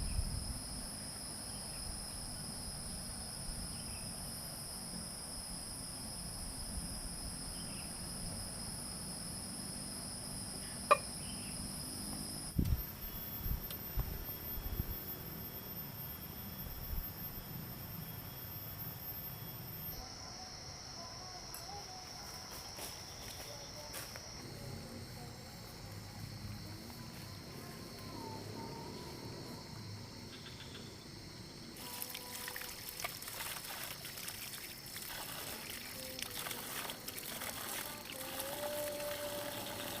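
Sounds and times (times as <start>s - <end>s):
insects chirping: 0.0s - 40.0s.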